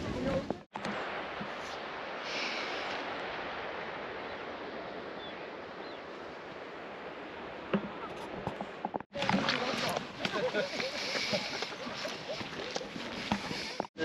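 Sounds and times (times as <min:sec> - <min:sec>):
sea surf on beach: 0:00.0 - 0:14.0.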